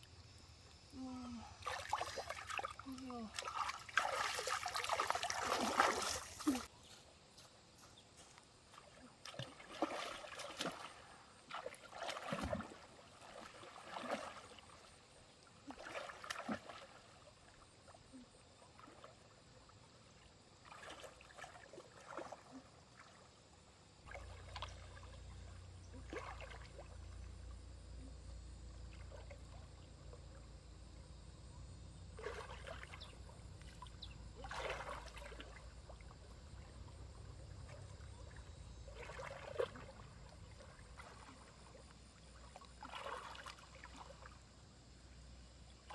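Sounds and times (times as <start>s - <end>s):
stream water splashing: 0.0s - 31.2s, 32.0s - 45.9s
faint water trickle: 0.0s - 45.9s.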